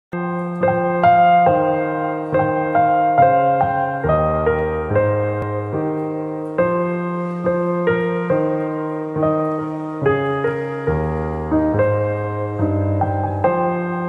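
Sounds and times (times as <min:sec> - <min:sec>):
slow piano melody: 0:00.1 - 0:14.0.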